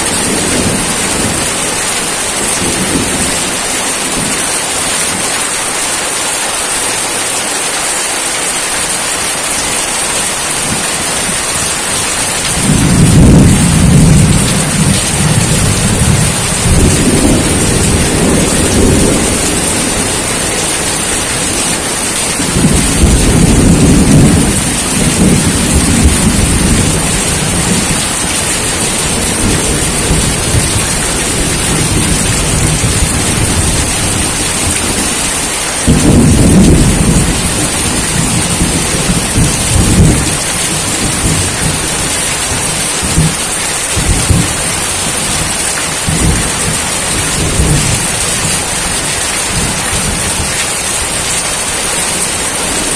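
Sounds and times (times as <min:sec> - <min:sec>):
rolling thunder: 0:00.0 - 0:04.4, 0:10.6 - 0:43.4, 0:44.0 - 0:51.4
heavy rain hissing: 0:00.0 - 0:52.9.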